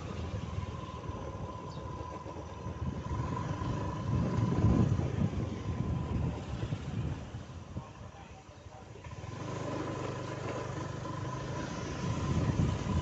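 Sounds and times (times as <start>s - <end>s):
motor scooter engine running: 0.0s - 7.6s, 8.8s - 13.0s.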